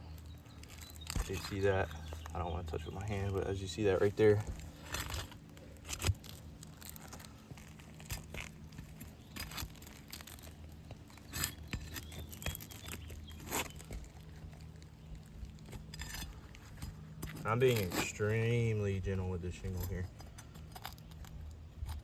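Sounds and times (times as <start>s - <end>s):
shingle crackling and scraping: 0.0s - 22.0s
steady low hum: 0.0s - 22.0s.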